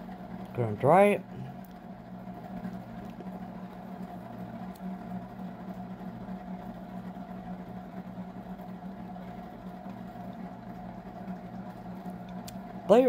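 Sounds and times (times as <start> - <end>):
heat gun fan humming: 0.0 - 13.0.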